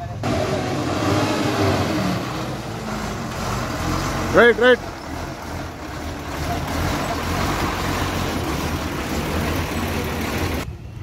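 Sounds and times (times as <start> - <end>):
lorry diesel engine droning: 0.0 - 11.0.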